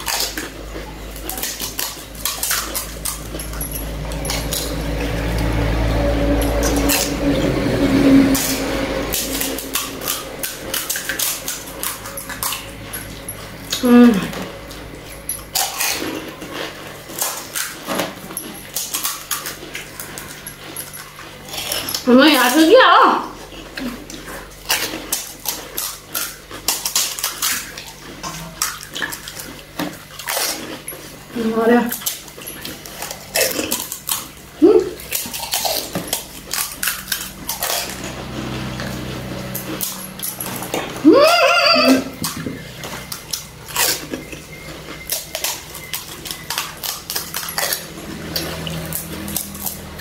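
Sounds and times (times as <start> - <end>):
crisp shells cracking: 0.0 - 22.1, 23.5 - 31.3, 31.9 - 50.0.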